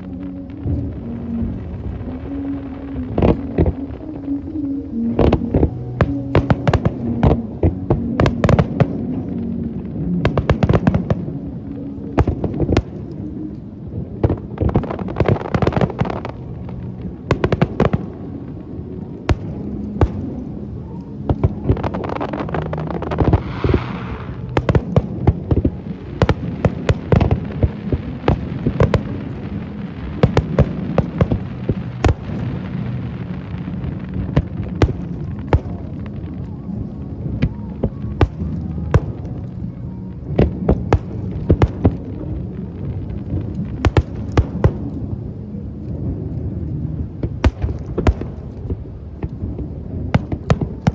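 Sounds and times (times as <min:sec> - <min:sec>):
hissing crackle: 0:00.0 - 0:50.9.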